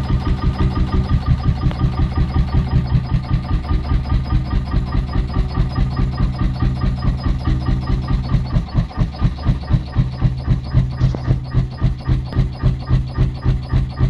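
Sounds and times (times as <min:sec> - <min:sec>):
two-stroke engine running: 0:00.0 - 0:14.0.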